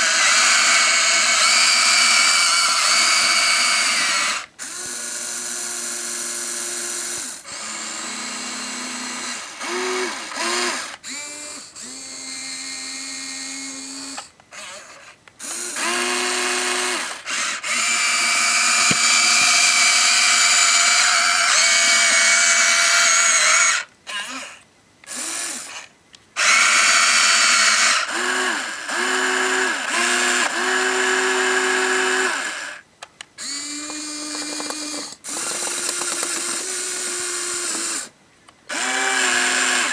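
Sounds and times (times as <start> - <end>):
small electric motors whining: 0.0 - 32.8, 33.4 - 38.1, 38.7 - 39.9.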